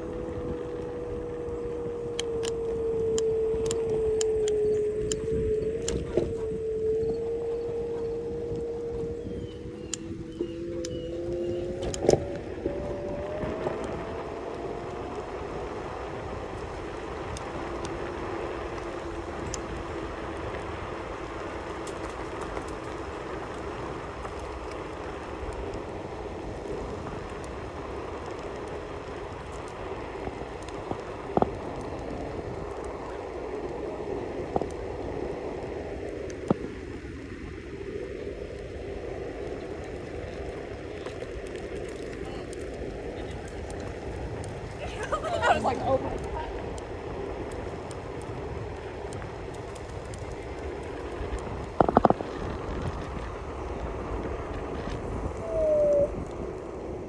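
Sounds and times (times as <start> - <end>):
steady whine: 0.0 - 57.0
wheels rolling on pavement: 0.0 - 57.0
wind noise: 0.0 - 57.0.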